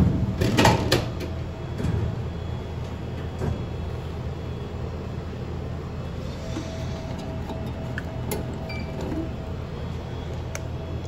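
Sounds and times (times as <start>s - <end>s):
vending machine humming: 0.0s - 11.0s.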